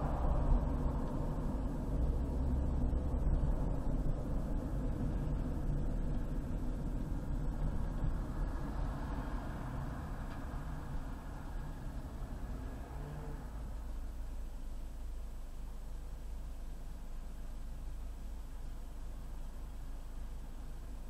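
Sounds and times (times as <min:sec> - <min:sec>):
car engine rumble: 0:00.0 - 0:21.0
tyre noise on highway: 0:00.0 - 0:21.0.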